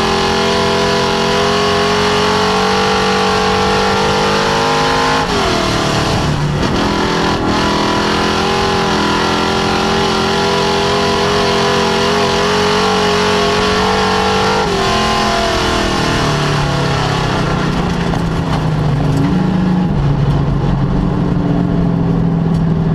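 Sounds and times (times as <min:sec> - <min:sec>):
race car engine at high revs: 0:00.0 - 0:22.9.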